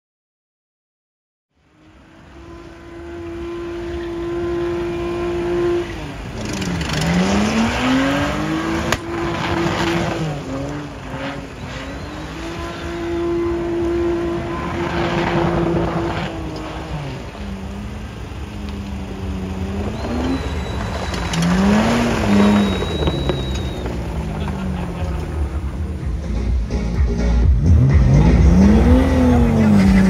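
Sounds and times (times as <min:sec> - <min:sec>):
car engine revving high: 0:01.8 - 0:26.2, 0:27.4 - 0:30.0.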